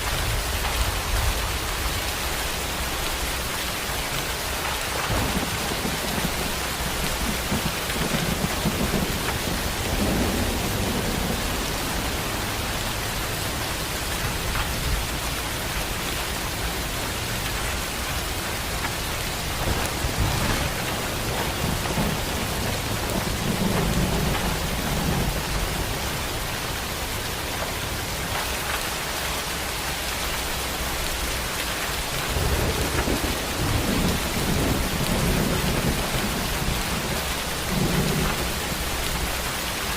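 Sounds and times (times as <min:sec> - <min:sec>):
heavy rain pouring: 0:00.0 - 0:39.9
thunder rumbling: 0:04.1 - 0:28.7, 0:30.8 - 0:39.8.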